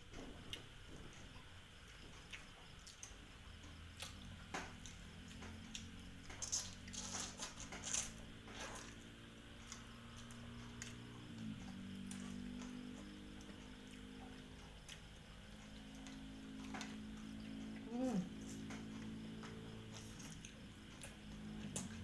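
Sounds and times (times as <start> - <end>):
wet chewing of noodle soup: 1.3 - 22.0.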